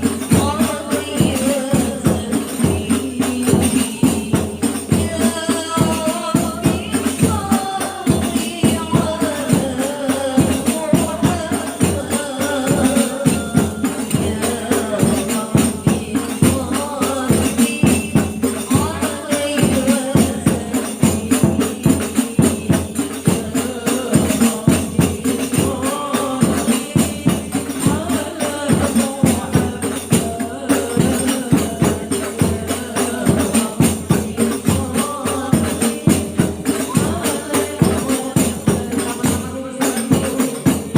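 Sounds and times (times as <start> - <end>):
frame drums with jingles: 0.0 - 40.9
women singing together: 0.0 - 40.9.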